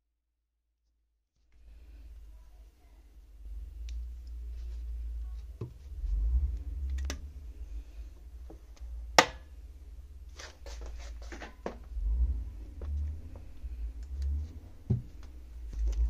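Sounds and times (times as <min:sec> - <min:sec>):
low handling rumble: 0:01.8 - 0:16.0.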